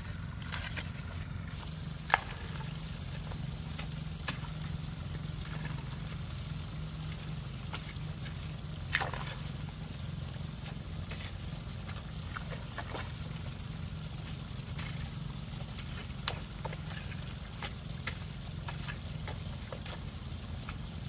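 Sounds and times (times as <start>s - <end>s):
hoe slapping wet mud: 0.0s - 21.0s.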